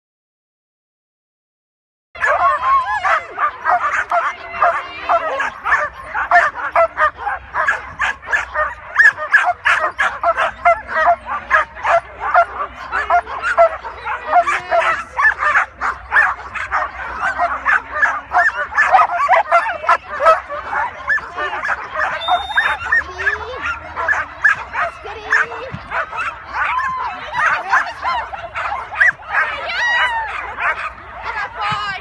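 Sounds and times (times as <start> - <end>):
dogs barking and yipping: 2.2 - 32.0.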